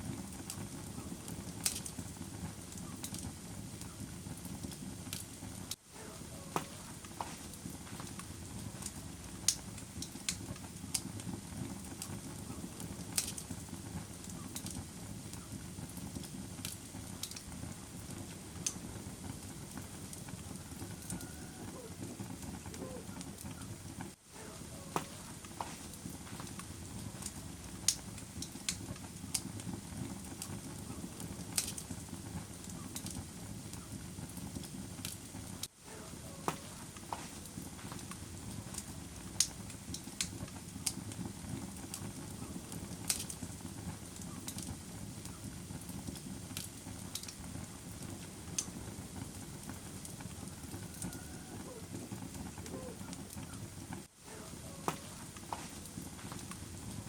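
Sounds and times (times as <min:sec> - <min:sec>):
wood fire crackling: 0:00.0 - 0:57.0
faint hisses: 0:05.6 - 0:23.2, 0:24.0 - 0:57.0.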